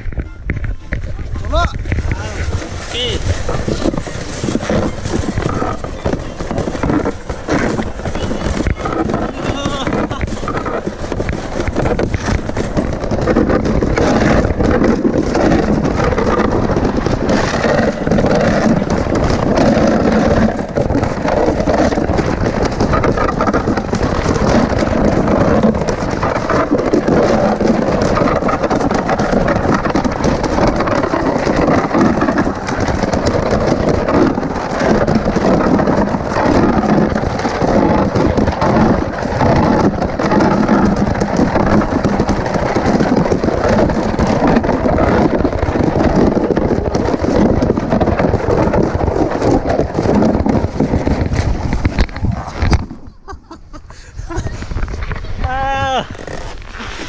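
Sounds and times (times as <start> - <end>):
sliding down ice slide: 0.6 - 57.0.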